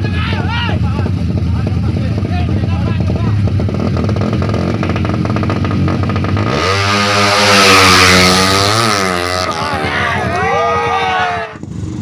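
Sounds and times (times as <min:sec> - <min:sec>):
motorcycle engine revving: 0:00.3 - 0:12.0.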